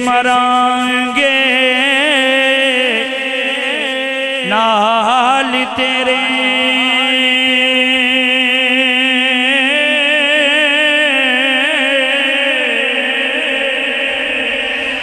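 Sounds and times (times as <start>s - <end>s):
man singing long note: 0.0s - 15.0s.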